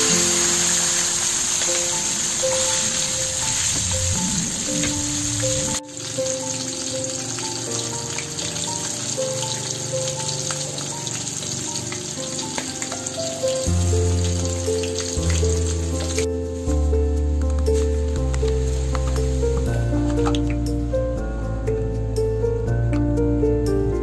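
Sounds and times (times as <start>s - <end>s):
fish sizzling in hot oil: 0.0s - 16.7s, 17.8s - 20.4s
light background music: 0.0s - 24.0s.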